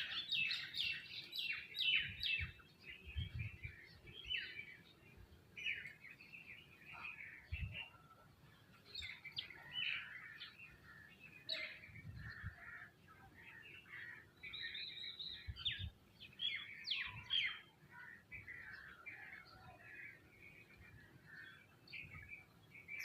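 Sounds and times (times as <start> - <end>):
flock of small birds chirping: 0.0 - 23.0.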